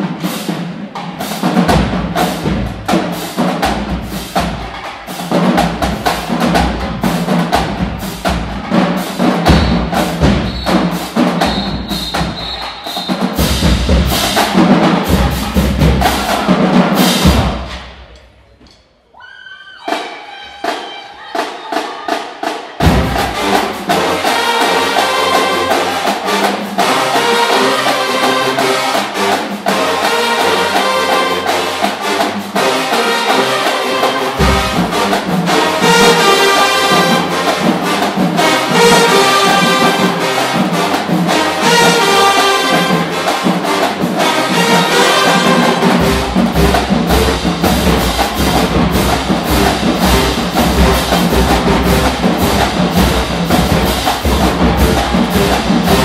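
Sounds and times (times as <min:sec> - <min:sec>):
marching band playing loudly: 0:00.0 - 0:18.6, 0:19.8 - 0:56.0
drum strikes: 0:00.0 - 0:18.9, 0:19.8 - 0:56.0.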